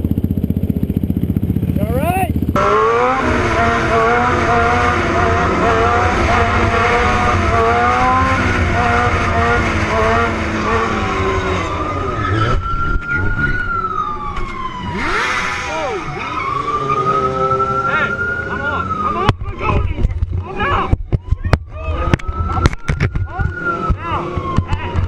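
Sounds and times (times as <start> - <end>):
motorcycle engine revving: 0.0 - 25.0
siren wail: 1.9 - 25.0.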